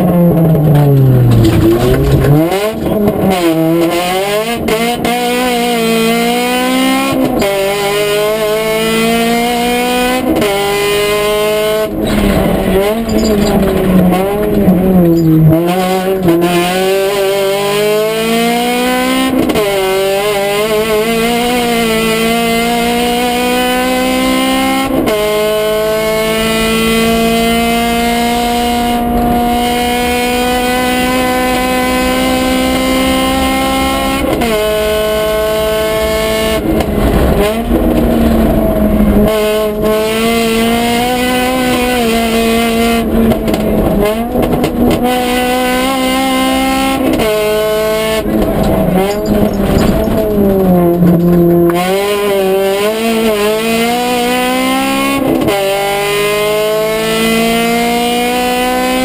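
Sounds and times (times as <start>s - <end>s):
rally car engine at high revs: 0.0s - 59.0s.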